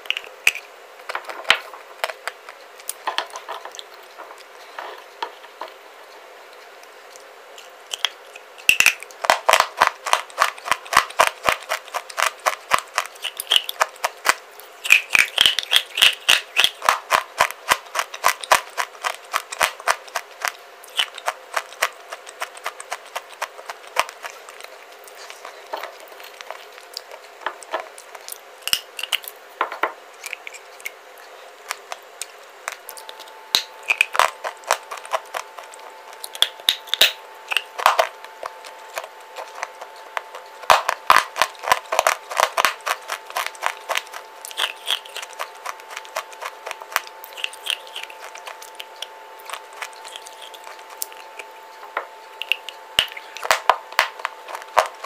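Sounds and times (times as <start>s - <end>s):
crunchy clay being chewed: 0.0s - 5.8s, 6.5s - 29.5s, 30.1s - 55.0s.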